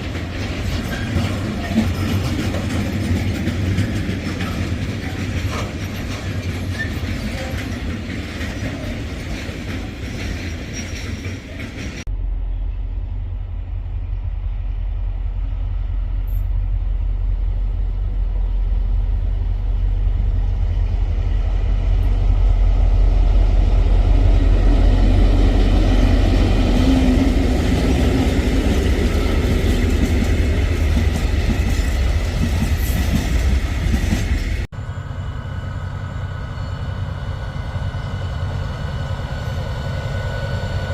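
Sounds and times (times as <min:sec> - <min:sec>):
diesel train engine rumble: 0:00.0 - 0:40.9.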